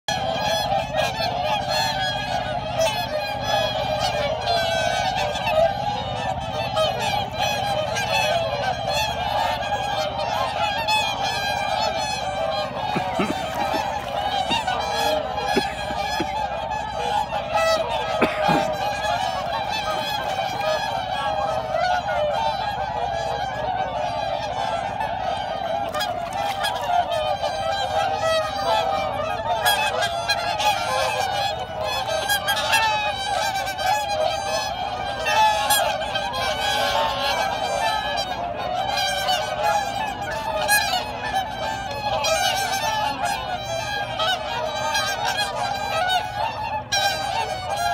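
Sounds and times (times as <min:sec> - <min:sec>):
swans honking: 0:00.1 - 0:47.9.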